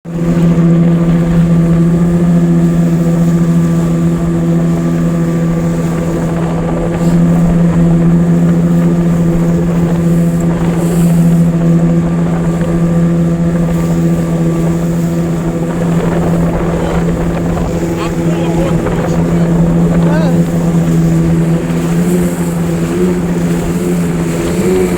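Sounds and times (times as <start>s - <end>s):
outboard motor running: 0.0s - 24.9s.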